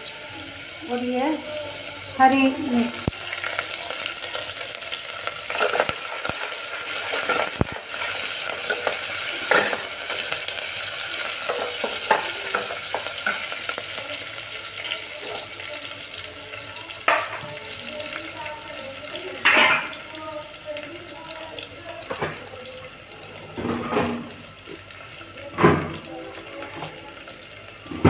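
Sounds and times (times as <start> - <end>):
spices sizzling in hot oil: 0.0 - 28.0.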